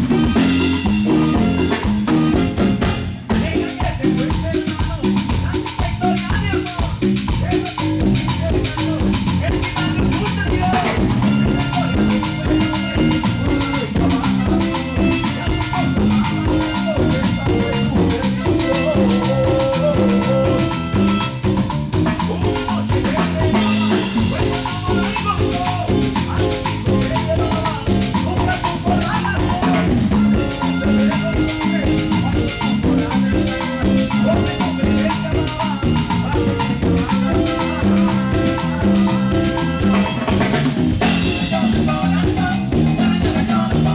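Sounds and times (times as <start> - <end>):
live band playing latin dance music: 0.0 - 43.9
steady drum beat: 0.0 - 43.9.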